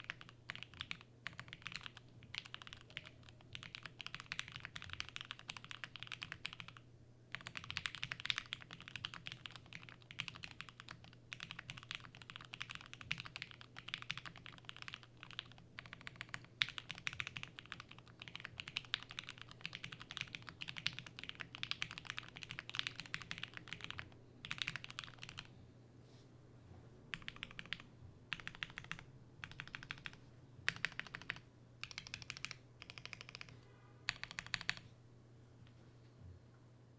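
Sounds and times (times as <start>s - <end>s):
fast typing on mechanical keyboard: 0.0s - 25.5s, 27.1s - 33.5s, 34.1s - 34.8s.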